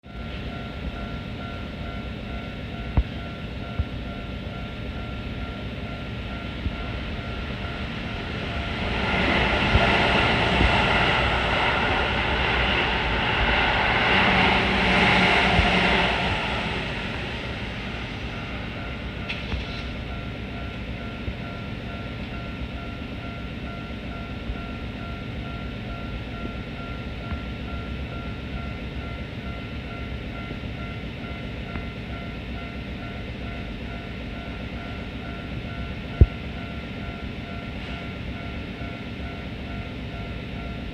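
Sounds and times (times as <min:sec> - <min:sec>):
trains rumbling past: 0:00.0 - 0:40.9.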